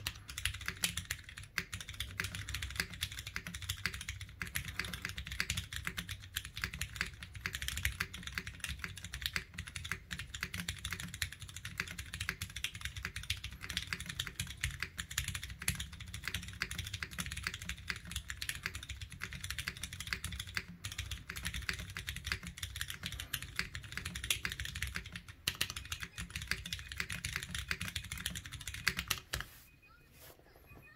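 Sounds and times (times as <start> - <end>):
mechanical keyboard typing: 0.0 - 29.5.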